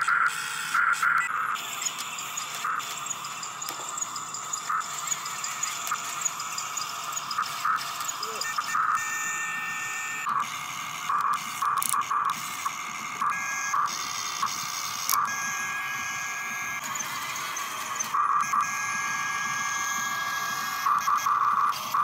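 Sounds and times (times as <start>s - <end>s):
toy excavator motors whining: 0.0s - 22.0s.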